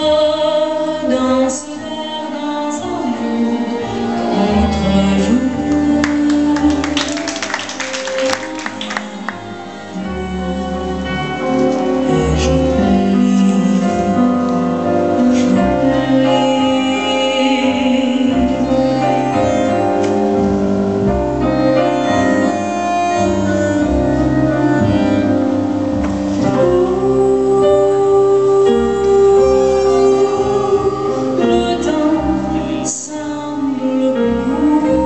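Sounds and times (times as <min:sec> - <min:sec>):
tango music: 0:00.0 - 0:35.0.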